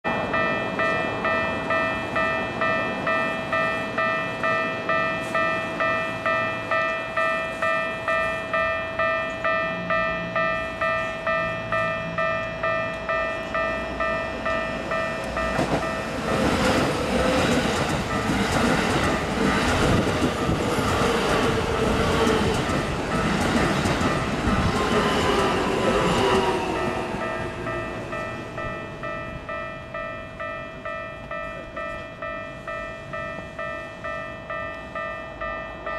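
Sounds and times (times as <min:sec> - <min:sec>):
level crossing warning bell: 0:00.0 - 0:35.9
train rumble and wheel clatter: 0:00.1 - 0:35.9.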